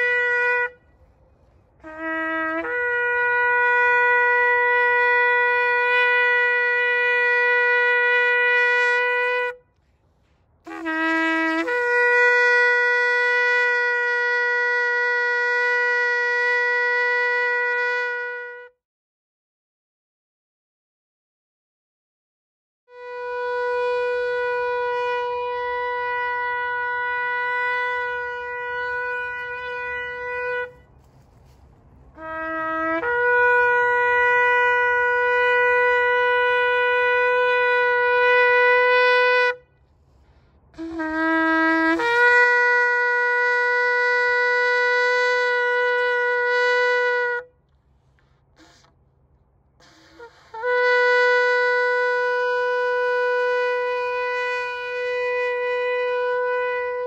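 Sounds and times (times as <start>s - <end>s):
shofar blasts: 0.0s - 9.8s, 10.6s - 18.8s, 22.9s - 49.0s, 49.8s - 57.0s.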